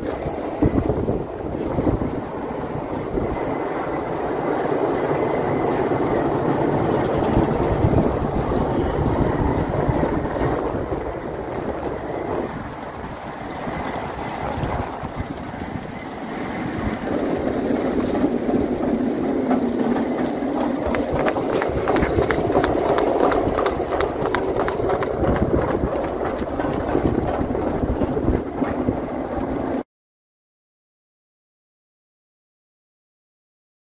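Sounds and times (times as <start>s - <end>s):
machine droning: 0.0s - 29.8s.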